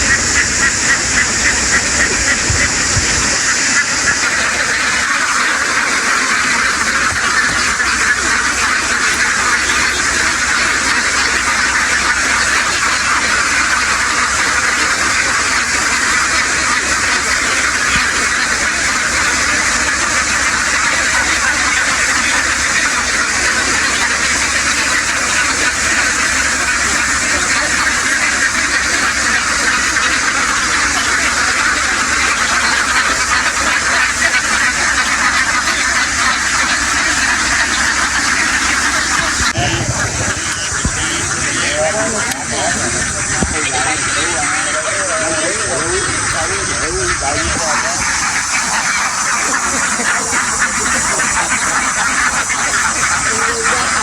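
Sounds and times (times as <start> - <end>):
flock of ducks quacking: 0.0 - 54.0.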